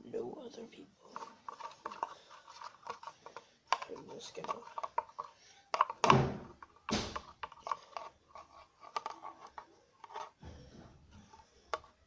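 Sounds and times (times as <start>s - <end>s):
handling clicks and scrapes: 1.0s - 12.0s.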